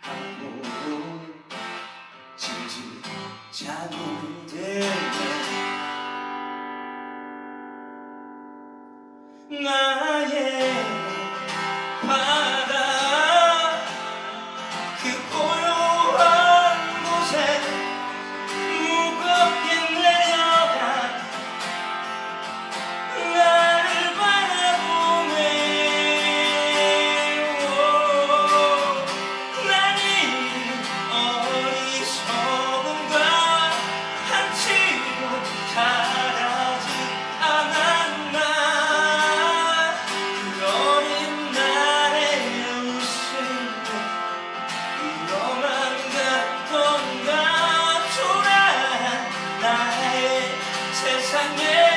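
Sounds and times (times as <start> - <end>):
man singing: 0.0 - 1.6, 2.4 - 5.9, 9.4 - 21.8, 23.0 - 51.9
acoustic guitar strumming: 0.0 - 51.9.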